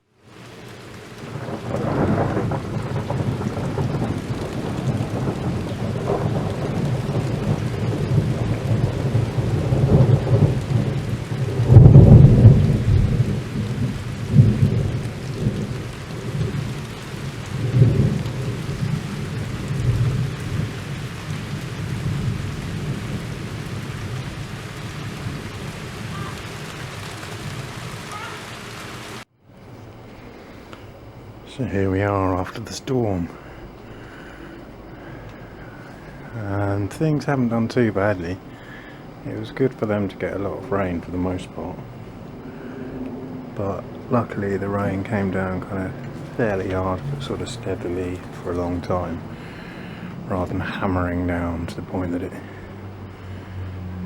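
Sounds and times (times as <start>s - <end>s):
heavy rain: 0.0s - 54.0s
rolling thunder: 0.3s - 29.0s, 32.3s - 54.0s.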